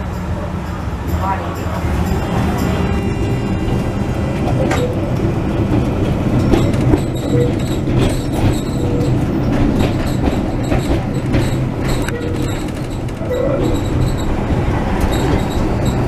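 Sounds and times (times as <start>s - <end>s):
tram wheels and motors rumbling: 0.0s - 16.0s.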